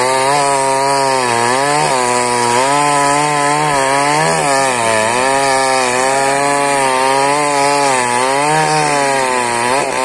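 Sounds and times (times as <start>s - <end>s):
chainsaw cutting tree trunk: 0.0s - 10.0s.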